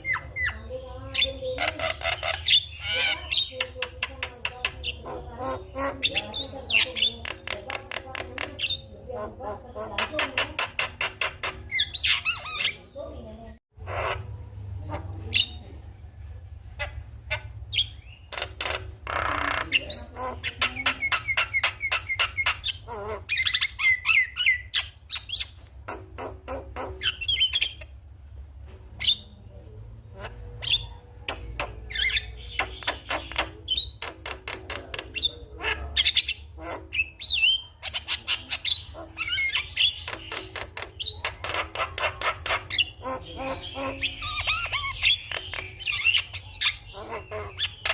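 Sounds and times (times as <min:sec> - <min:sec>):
myna chattering and calling: 0:00.0 - 0:28.1, 0:29.0 - 0:47.9.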